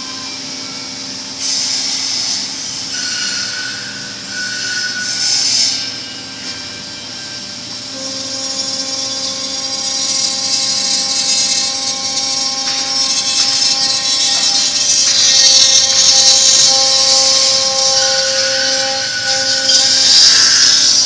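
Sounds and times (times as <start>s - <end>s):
cutting and dust extraction hiss: 0.0s - 21.0s
drilling spindle whine: 0.0s - 21.0s
steady machine tones: 0.0s - 21.0s.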